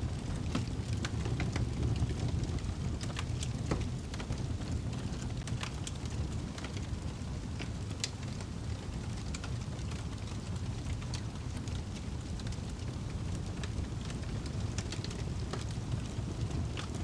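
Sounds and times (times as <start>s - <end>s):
low rumble of burning fire: 0.0s - 17.0s
fire pops and snaps: 0.1s - 17.0s.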